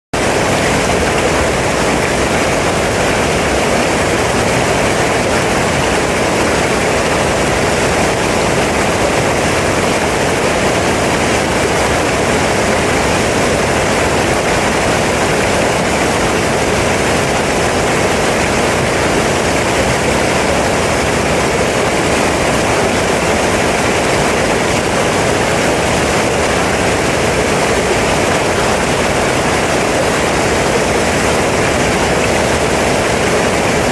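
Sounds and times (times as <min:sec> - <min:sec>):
mountain stream rushing: 0:00.2 - 0:33.9.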